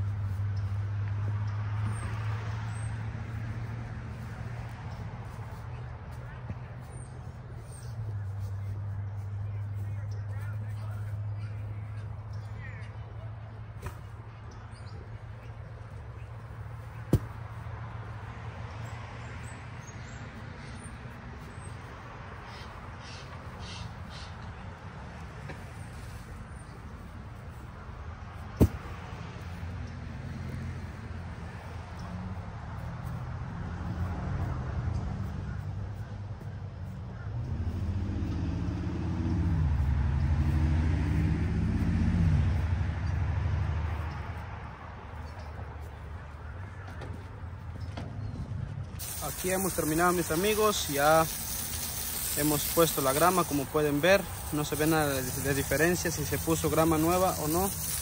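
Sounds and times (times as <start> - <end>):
vehicle engine passing by: 0.0 - 14.7, 16.2 - 58.0.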